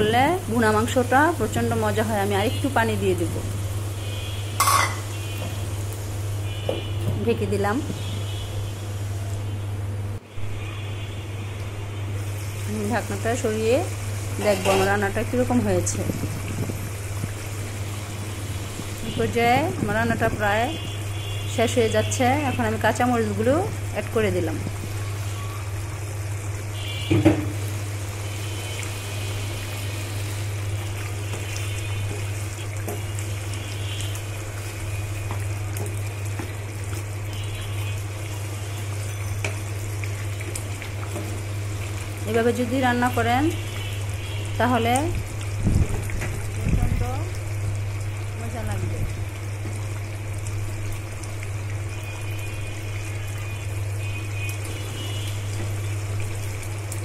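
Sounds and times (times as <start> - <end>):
curry bubbling in a pan: 10.6 - 57.0.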